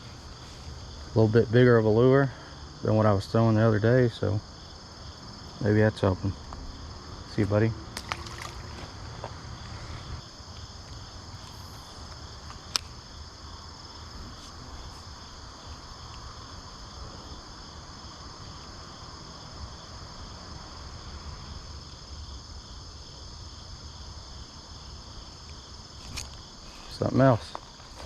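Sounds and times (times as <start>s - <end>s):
insects chirping: 0.0s - 28.0s.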